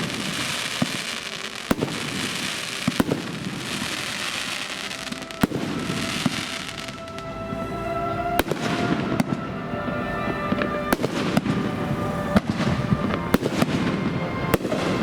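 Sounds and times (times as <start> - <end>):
fireworks bangs: 0.0 - 7.3, 8.4 - 15.0
fireworks crackle: 0.0 - 7.6, 8.4 - 15.0.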